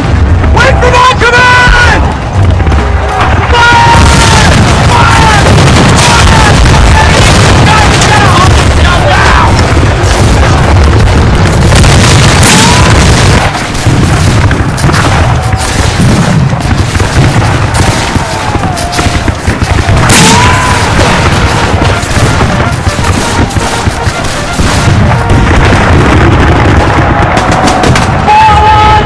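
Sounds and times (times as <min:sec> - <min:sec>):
cannon booms: 0:00.0 - 0:29.0.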